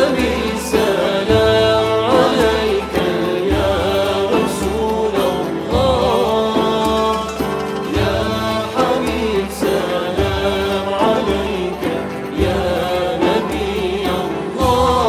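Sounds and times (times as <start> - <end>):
kanun: 0.0 - 15.0
piano: 0.0 - 15.0.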